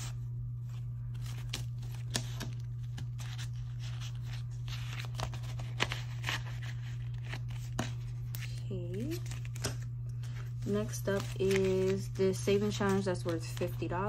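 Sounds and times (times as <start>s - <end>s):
paper bills rustling: 0.0s - 14.0s
plastic binder pocket crinkling: 0.0s - 14.0s
steady low hum: 0.0s - 14.0s.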